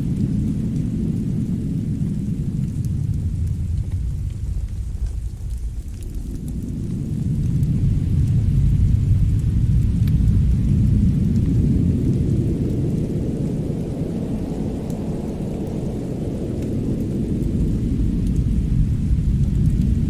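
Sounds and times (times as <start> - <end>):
deep storm rumble: 0.0 - 20.0
faint fire crackles: 0.0 - 20.0.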